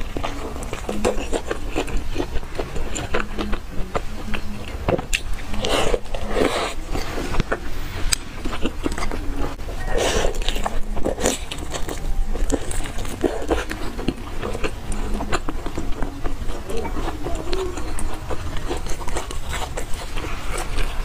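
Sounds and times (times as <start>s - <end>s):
wet chewing and slurping: 0.0s - 21.0s.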